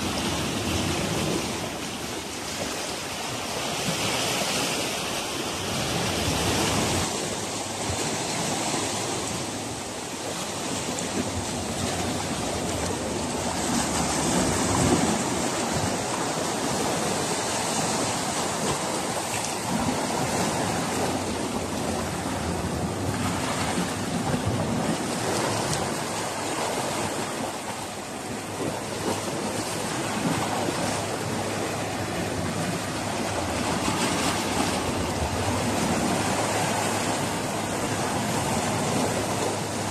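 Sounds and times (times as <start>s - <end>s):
waves washing against rocky shore: 0.0s - 39.9s.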